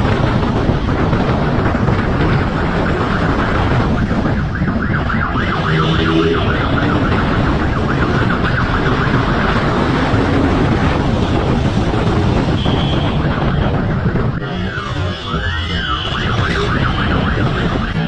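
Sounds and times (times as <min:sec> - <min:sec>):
wind noise: 0:00.0 - 0:18.0
fast-warbling siren: 0:00.3 - 0:18.0.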